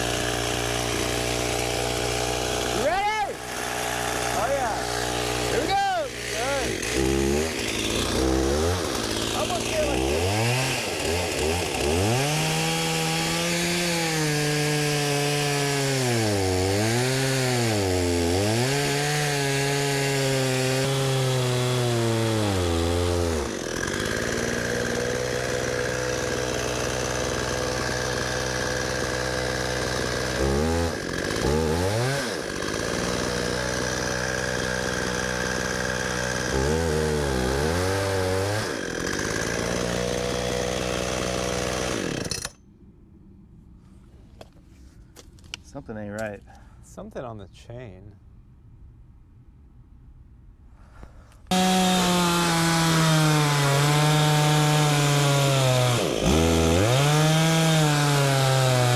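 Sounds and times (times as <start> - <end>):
chainsaw cutting log: 0.0 - 42.6, 51.0 - 58.9.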